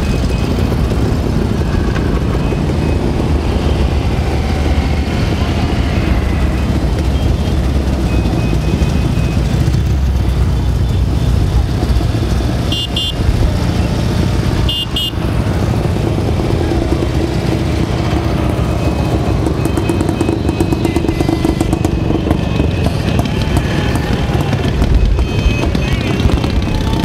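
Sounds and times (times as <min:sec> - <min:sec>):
motorcycles riding past: 0:00.0 - 0:27.0.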